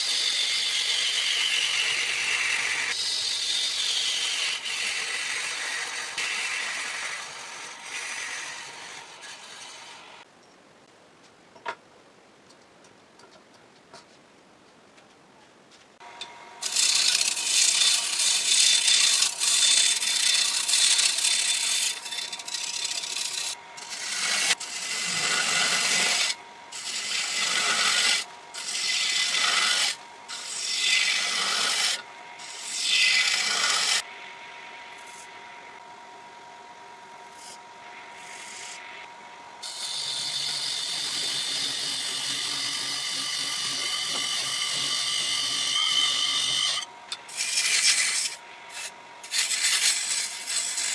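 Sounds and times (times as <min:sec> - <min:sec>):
tool cutting wood on lathe: 0:00.0 - 0:10.2, 0:16.6 - 0:34.1, 0:34.9 - 0:35.9, 0:37.0 - 0:50.9
lathe humming: 0:00.1 - 0:10.2, 0:16.6 - 0:50.9.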